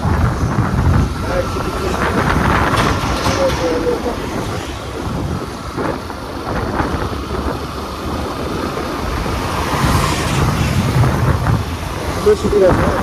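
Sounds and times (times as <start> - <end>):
motorcycle engine and road noise: 0.0 - 13.0
wind rushing over microphone: 0.0 - 13.0.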